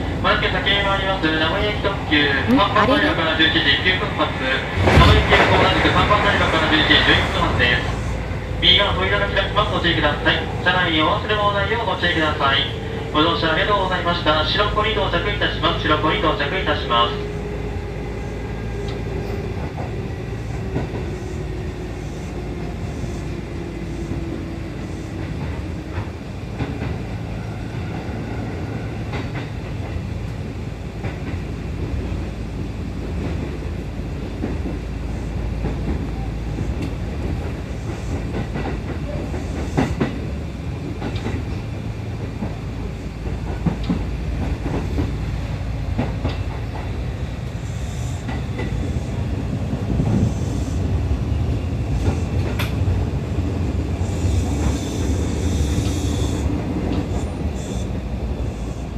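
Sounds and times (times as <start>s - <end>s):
electric train rumbling on rails: 0.0s - 58.9s.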